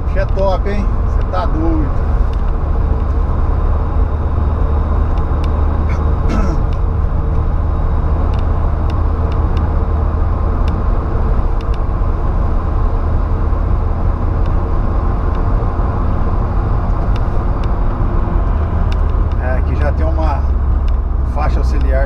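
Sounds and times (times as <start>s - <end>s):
engine and tyre rumble in cabin: 0.0s - 22.0s.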